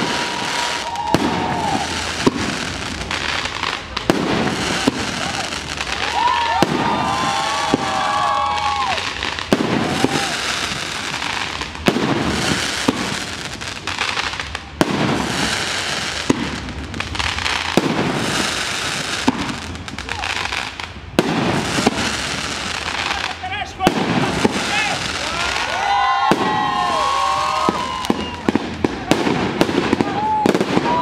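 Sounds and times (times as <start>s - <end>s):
fireworks bangs: 0.0s - 31.0s
fireworks crackling: 0.0s - 31.0s.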